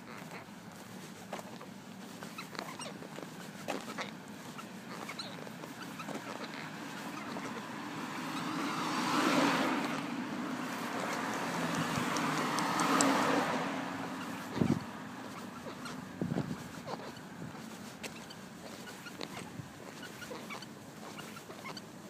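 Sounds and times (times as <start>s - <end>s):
vehicles passing on road: 0.0s - 22.0s.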